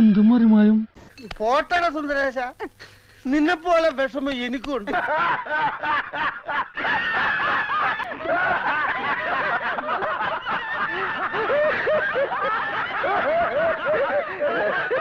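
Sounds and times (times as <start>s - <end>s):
men laughing: 2.4s - 15.0s.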